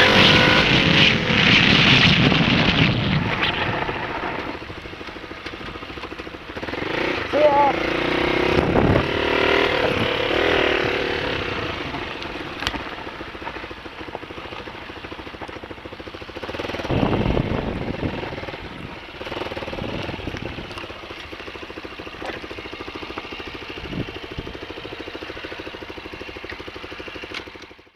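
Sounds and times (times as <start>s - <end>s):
dirt bike engine running: 0.0s - 27.9s.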